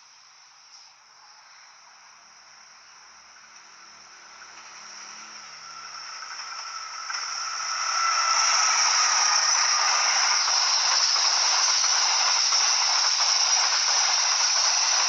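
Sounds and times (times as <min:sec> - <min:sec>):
train wheels hissing on track: 0:00.0 - 0:15.0.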